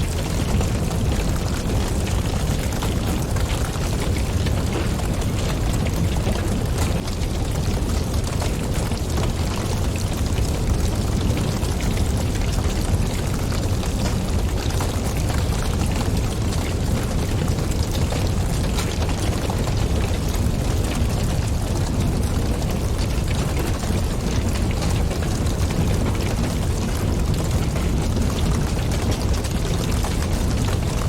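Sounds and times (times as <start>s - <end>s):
fire crackling and popping: 0.0s - 31.0s
fire flames rumbling: 0.0s - 31.0s.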